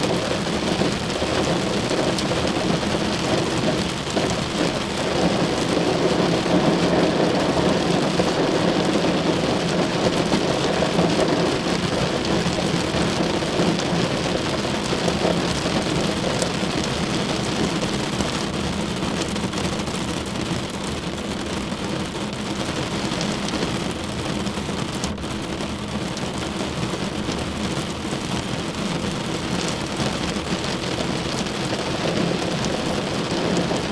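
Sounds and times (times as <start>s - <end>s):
rain drumming on a car roof: 0.0s - 33.9s.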